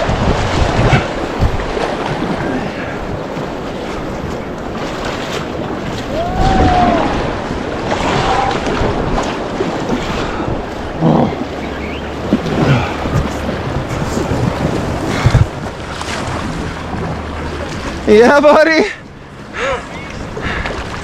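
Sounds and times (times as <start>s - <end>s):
wind buffeting microphone: 0.0s - 18.2s, 19.1s - 21.0s
river whitewater rushing: 0.0s - 21.0s.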